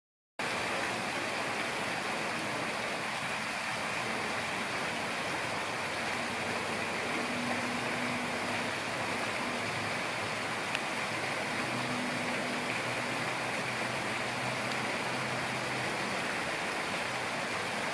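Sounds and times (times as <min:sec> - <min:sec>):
rushing background noise: 0:00.5 - 0:17.9.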